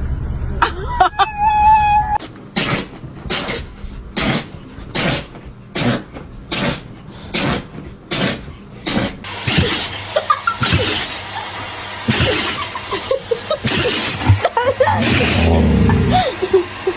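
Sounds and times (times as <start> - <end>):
dog sneezing: 2.6 - 16.4.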